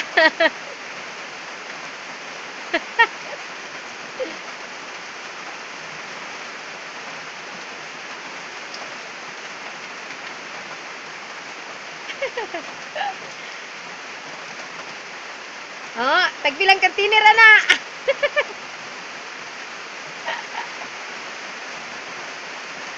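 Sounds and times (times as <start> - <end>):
steady rain falling: 0.0 - 22.9.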